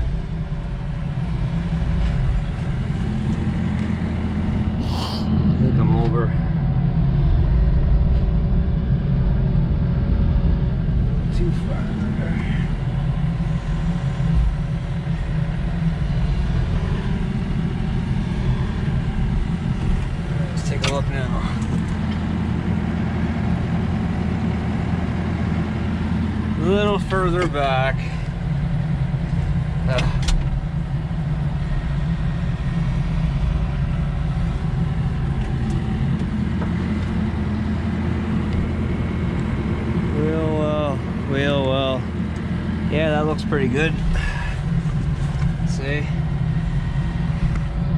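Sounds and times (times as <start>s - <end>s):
heavy engine rumbling: 0.0s - 47.9s.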